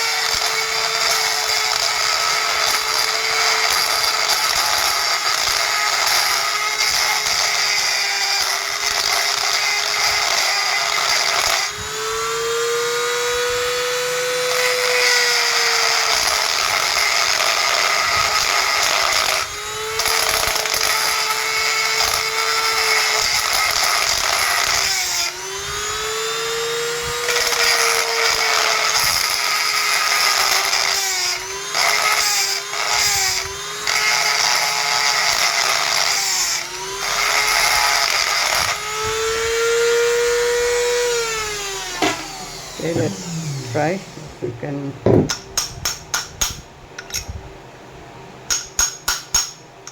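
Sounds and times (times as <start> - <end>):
power grinder grinding metal: 0.0 - 45.4.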